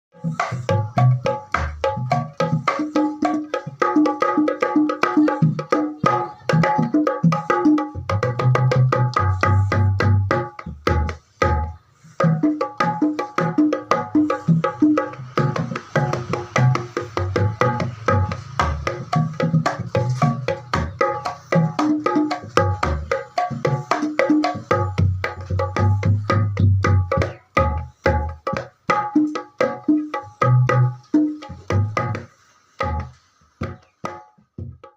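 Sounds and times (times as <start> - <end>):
hand drum fast strokes: 0.2 - 34.9.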